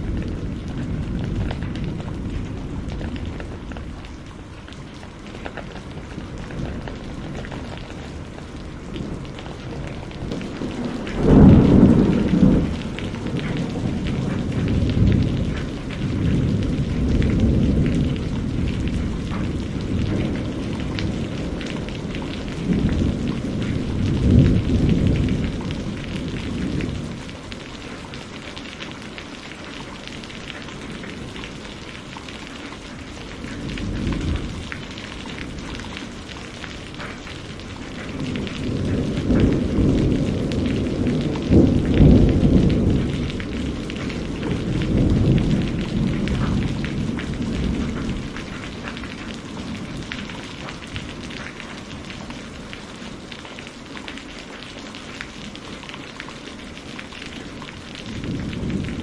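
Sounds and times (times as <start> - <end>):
rolling thunder: 0.0 - 29.6, 33.0 - 52.8, 57.9 - 59.0
steady rain: 0.0 - 59.0.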